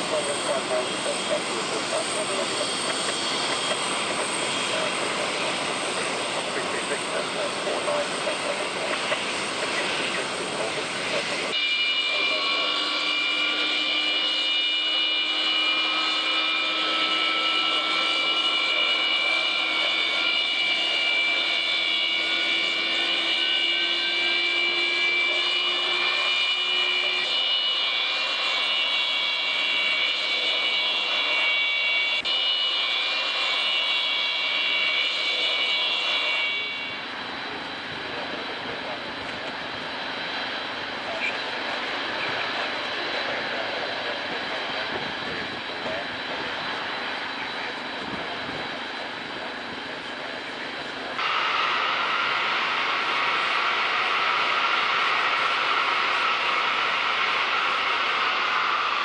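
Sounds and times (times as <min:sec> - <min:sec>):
distant engine noise: 0:00.0 - 0:59.0
jet engines whining: 0:00.0 - 0:59.0.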